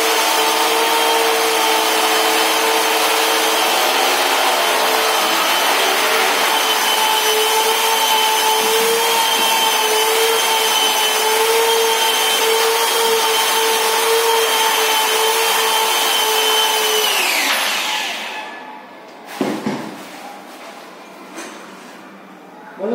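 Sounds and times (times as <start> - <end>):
electric polisher whining: 0.0 - 18.6.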